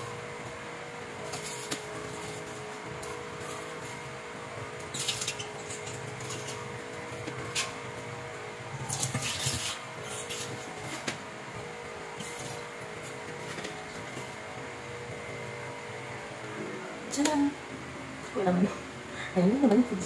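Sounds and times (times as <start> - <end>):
refrigerator hum: 0.0 - 20.0.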